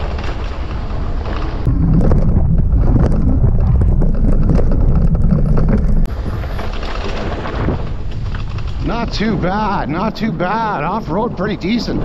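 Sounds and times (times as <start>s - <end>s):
bike rattling over rough ground: 0.0s - 12.0s
wind buffeting microphone: 0.0s - 12.0s.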